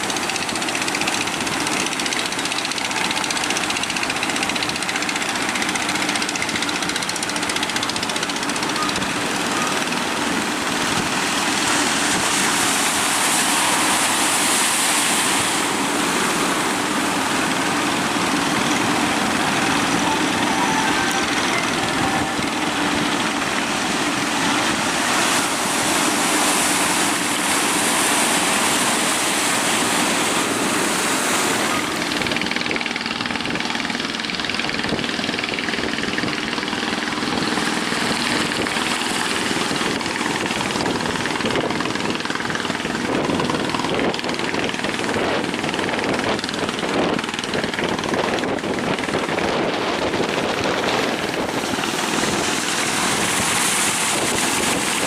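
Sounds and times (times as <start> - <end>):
boat engine running: 0.0 - 55.0
surf rushing: 0.0 - 55.0
wind: 0.0 - 55.0.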